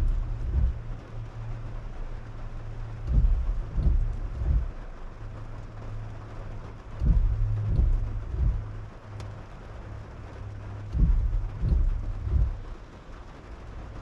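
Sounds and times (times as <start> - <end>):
low thumps: 0.0 - 12.9
car engine and road noise: 0.0 - 14.0
rain: 0.0 - 14.0.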